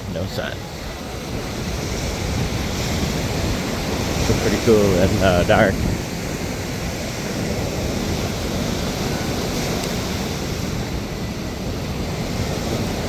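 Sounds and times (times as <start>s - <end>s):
ocean surf washing ashore: 0.0s - 13.0s
wind noise on microphone: 0.0s - 13.0s.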